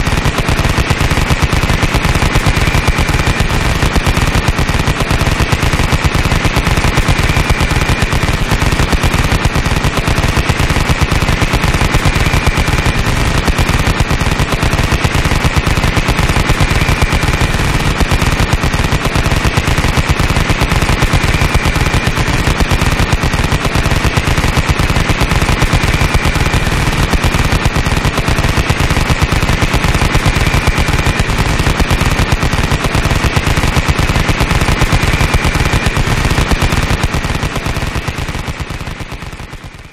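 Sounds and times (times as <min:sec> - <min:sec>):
machine gun firing: 0:00.0 - 0:39.9.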